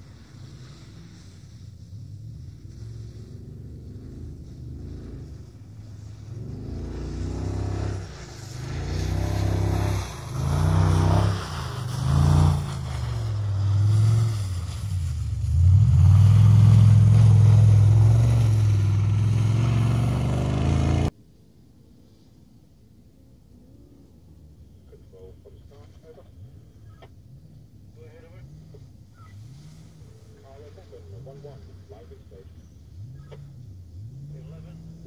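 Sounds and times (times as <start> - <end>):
racing engine revving: 0.3 - 21.1, 27.0 - 35.0.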